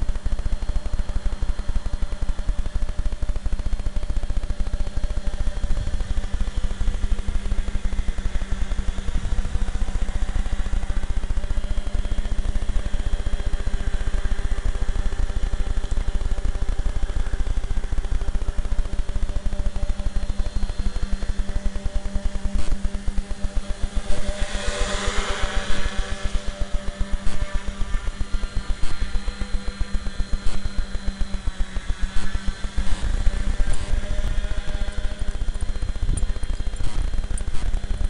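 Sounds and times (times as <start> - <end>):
drone motors and propellers buzzing: 0.0 - 38.0.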